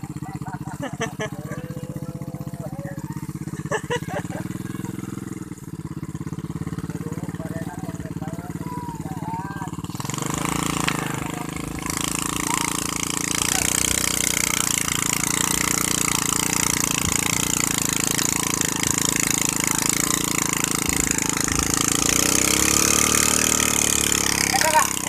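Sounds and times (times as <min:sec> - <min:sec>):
winch engine running: 0:00.0 - 0:25.0.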